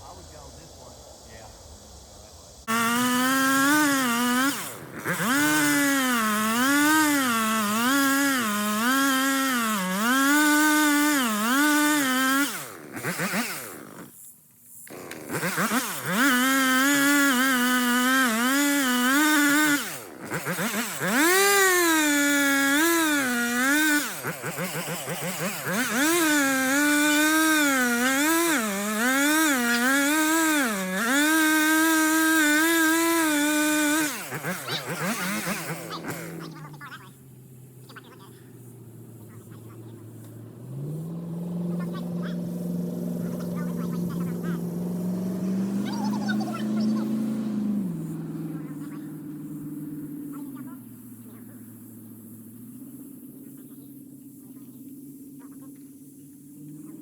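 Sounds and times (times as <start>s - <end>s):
chainsaw cutting into tree: 2.6s - 37.2s, 37.8s - 50.8s.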